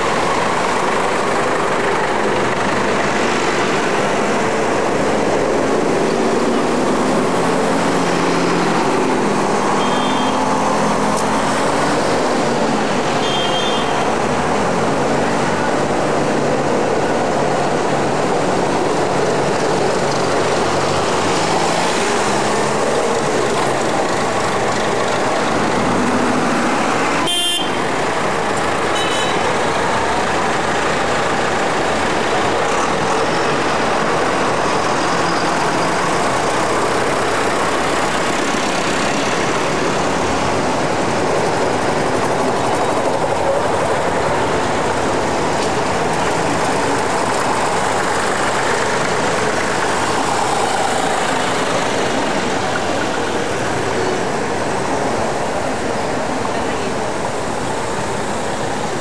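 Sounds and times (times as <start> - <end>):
diesel tractors driving past: 0.0 - 59.0.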